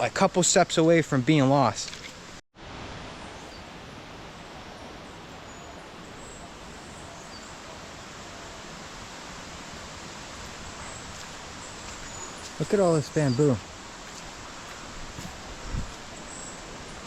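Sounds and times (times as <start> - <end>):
rainforest rushing ambience: 0.0 - 17.0.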